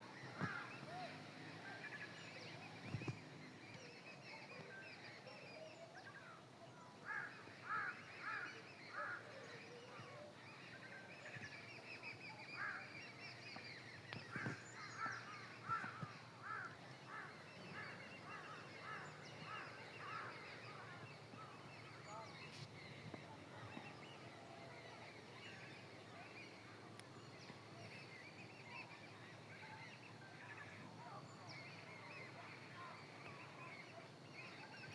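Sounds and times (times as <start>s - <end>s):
small birds twittering: 0.0s - 34.9s.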